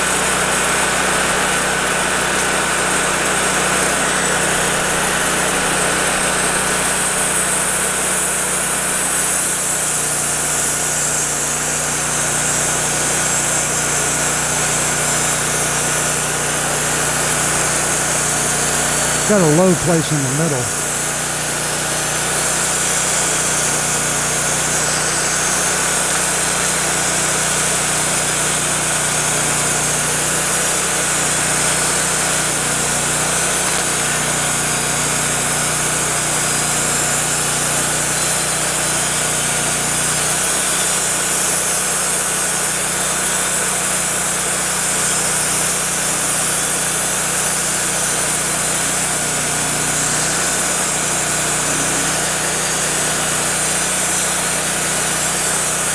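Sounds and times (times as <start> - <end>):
band sawmill running: 0.0 - 55.9.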